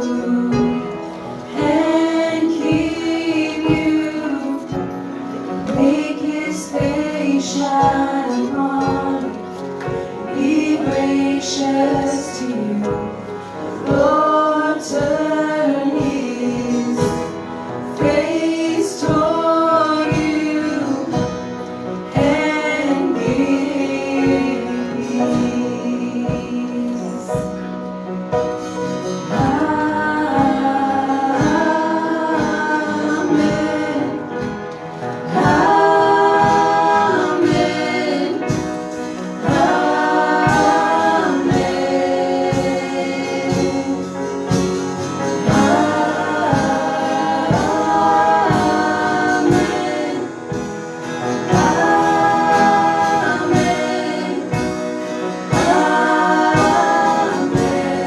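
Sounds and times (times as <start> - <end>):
choir singing held chords: 0.0 - 27.7, 28.3 - 58.0.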